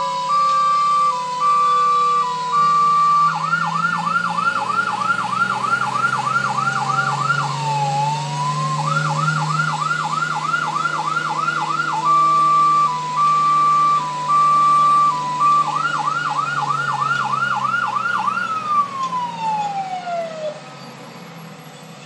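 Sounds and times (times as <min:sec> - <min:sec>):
electronic fire truck siren: 0:00.0 - 0:22.0.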